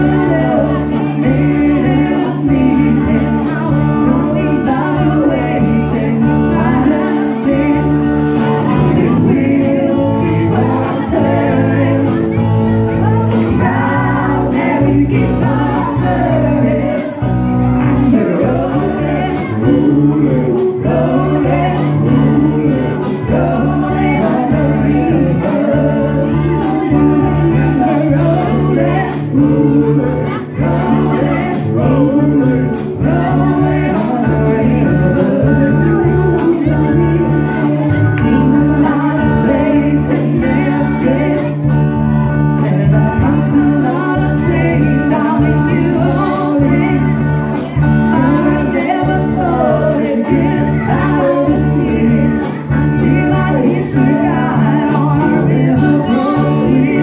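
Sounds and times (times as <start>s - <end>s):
electric guitar: 0.0s - 57.0s
swing band playing: 0.0s - 57.0s
women singing: 0.0s - 57.0s.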